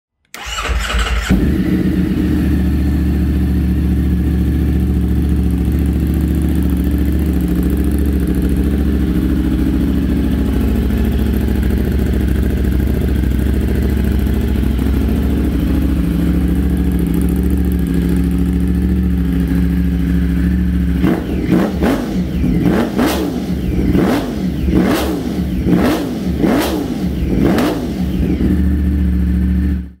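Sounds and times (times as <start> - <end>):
motorcycle engine idling and revving: 0.4 - 30.0.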